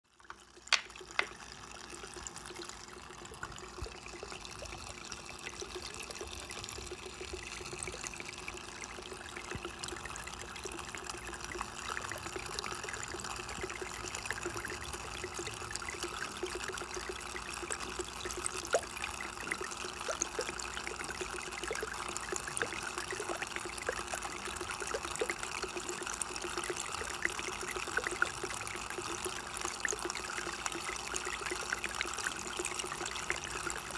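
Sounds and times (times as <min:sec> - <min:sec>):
fountain water trickling: 0:00.1 - 0:33.9.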